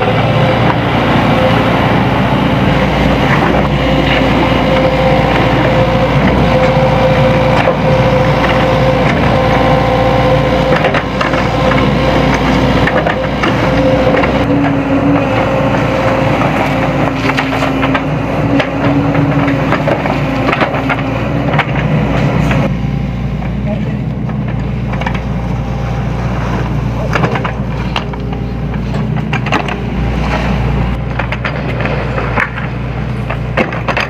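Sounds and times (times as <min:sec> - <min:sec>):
excavator engine whine: 0:00.0 - 0:34.0.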